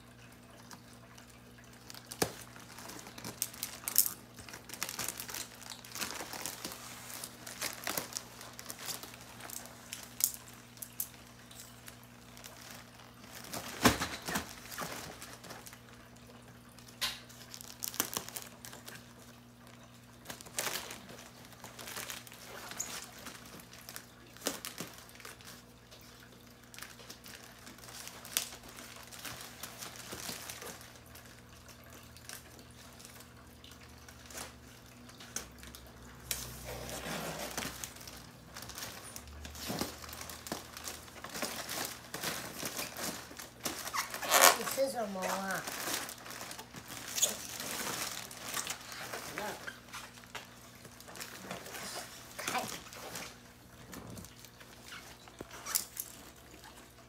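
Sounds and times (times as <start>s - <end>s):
plastic mailer bag crinkling: 0.5s - 57.0s.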